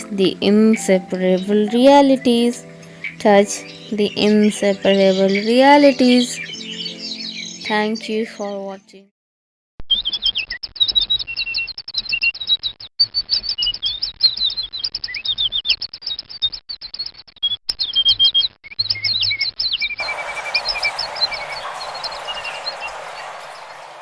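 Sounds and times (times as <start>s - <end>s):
small birds chirping: 0.0s - 8.9s, 10.0s - 24.0s.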